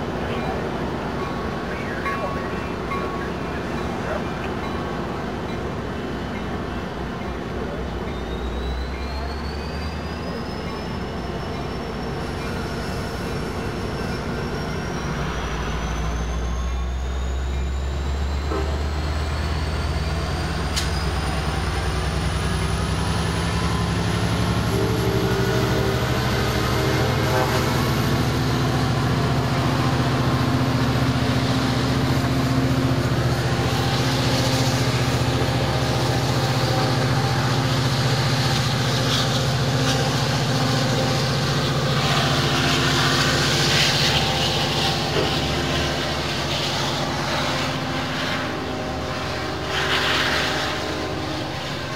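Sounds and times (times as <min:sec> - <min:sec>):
diesel locomotive engine: 0:00.0 - 0:51.9.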